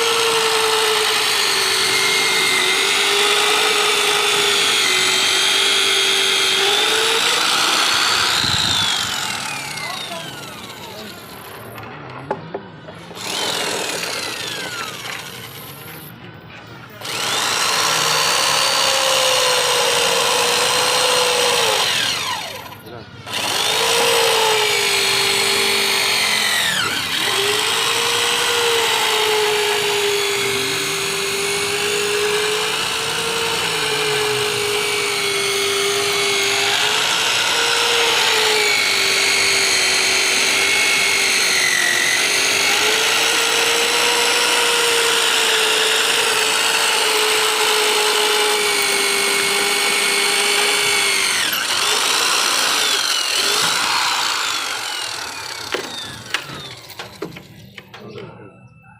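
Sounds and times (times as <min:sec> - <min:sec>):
electric drill boring through steel: 0:00.0 - 0:11.8, 0:13.0 - 0:16.2, 0:17.0 - 0:58.2.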